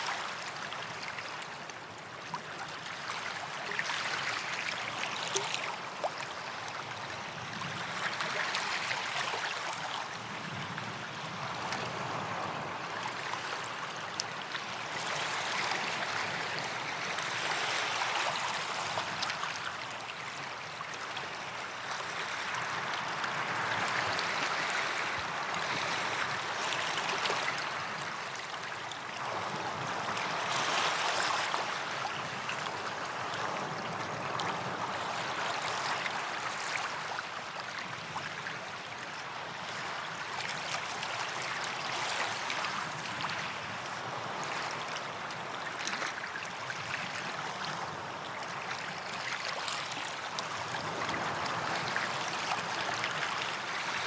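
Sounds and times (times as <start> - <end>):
sea waves on beach: 2.8 - 54.0.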